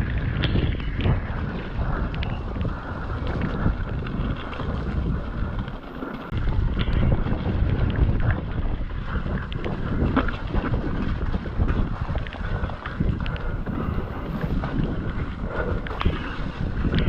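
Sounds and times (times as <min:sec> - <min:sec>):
bike rumbling on rocky trail: 0:00.0 - 0:17.0
wind buffeting microphone: 0:00.0 - 0:17.0.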